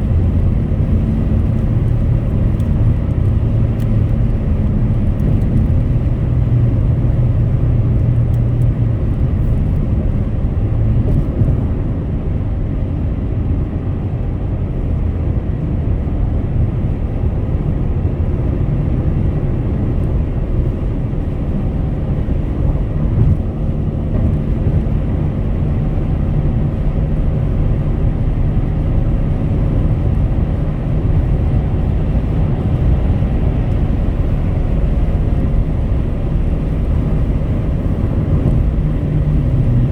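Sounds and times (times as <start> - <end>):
faint engine hum: 0.0 - 39.9
road and tyre rumble: 0.0 - 39.9.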